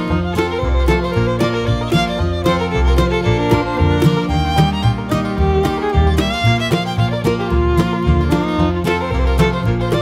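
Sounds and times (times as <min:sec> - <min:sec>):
country fiddle music: 0:00.0 - 0:10.0.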